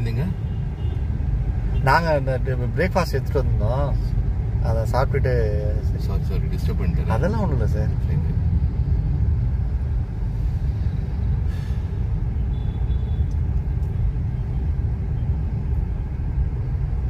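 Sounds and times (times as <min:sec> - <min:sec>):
car engine low rumble: 0:00.0 - 0:17.0
road noise inside car: 0:00.0 - 0:17.0.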